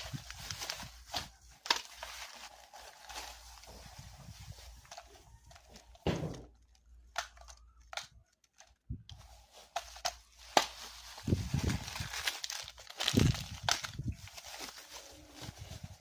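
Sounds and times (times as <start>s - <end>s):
packaging crinkling and tearing: 0.0s - 16.0s.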